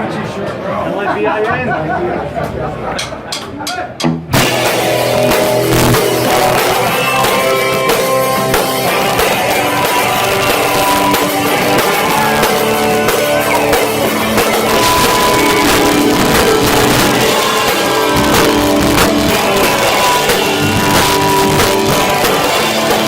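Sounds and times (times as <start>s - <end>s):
drums: 2.3s - 23.0s
hardcore band playing live: 2.4s - 23.0s
distorted electric guitars: 3.0s - 23.0s.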